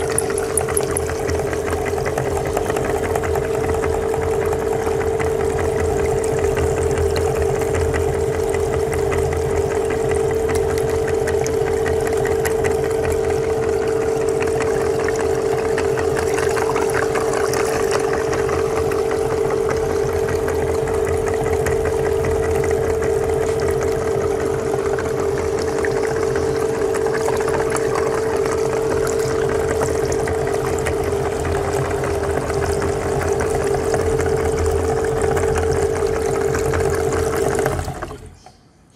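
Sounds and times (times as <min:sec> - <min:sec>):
meat grinder humming: 0:00.0 - 0:38.5.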